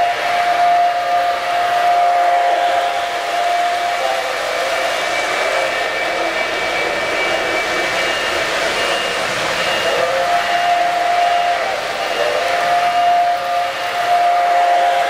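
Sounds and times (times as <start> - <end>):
model train motors whirring: 0.0 - 15.0
steady high tone: 0.0 - 15.0.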